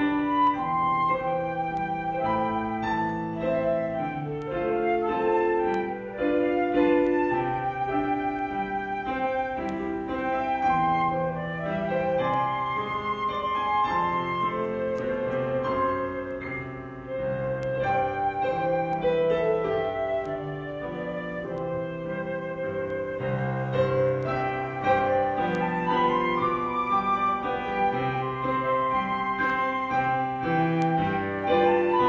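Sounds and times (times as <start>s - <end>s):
flute melody: 0.0s - 32.0s
piano chords: 0.0s - 32.0s.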